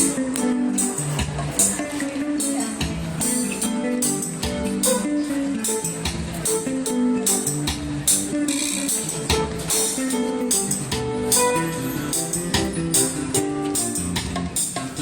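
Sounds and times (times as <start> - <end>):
strummed guitar music with beat: 0.0 - 15.0.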